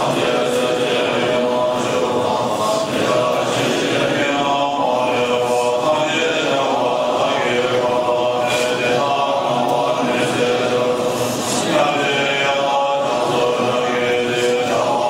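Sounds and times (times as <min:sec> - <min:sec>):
monks chanting in unison: 0:00.0 - 0:15.0.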